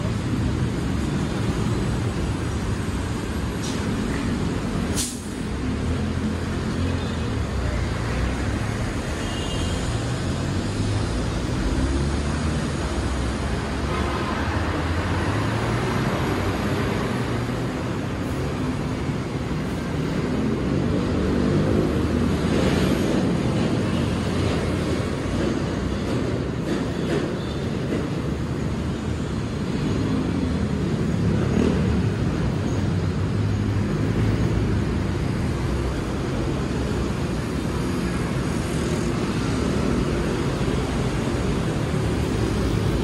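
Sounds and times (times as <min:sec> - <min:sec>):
heavy road traffic passing: 0:00.0 - 0:43.0.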